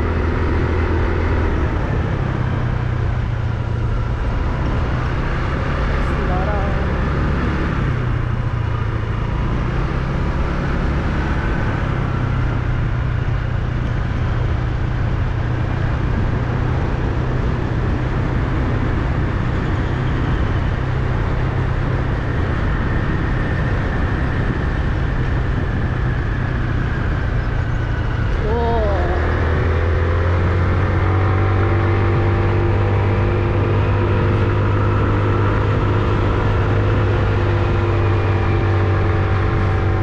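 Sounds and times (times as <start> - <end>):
motorcycle engine cruising: 0.0 - 40.0
road noise: 0.0 - 40.0
wind noise: 0.0 - 40.0.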